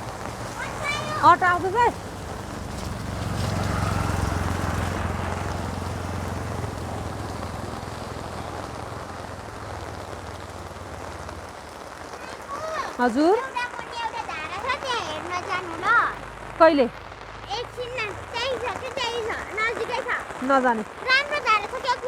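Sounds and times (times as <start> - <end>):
auto-rickshaw engine passing: 0.0 - 22.0
steady rain: 0.0 - 22.0.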